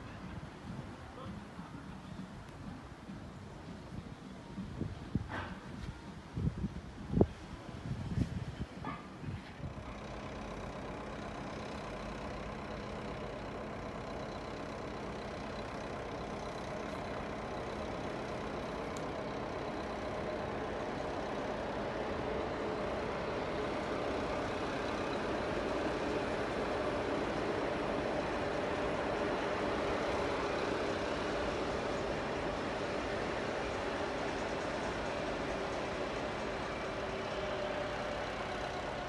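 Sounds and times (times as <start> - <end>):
electric train rumbling on track: 0.0 - 39.0.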